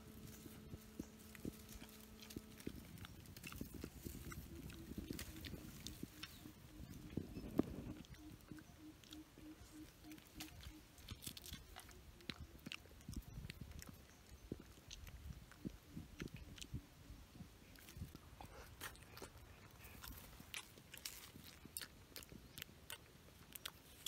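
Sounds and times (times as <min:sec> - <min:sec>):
person chewing banana: 0:00.1 - 0:17.0, 0:17.6 - 0:24.0.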